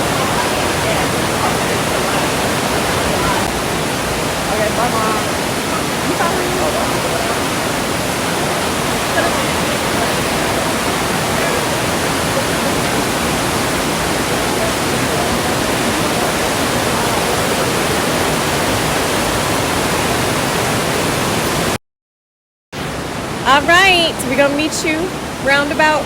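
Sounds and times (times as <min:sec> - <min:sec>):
waterfall roaring: 0:00.0 - 0:21.8, 0:22.8 - 0:26.0.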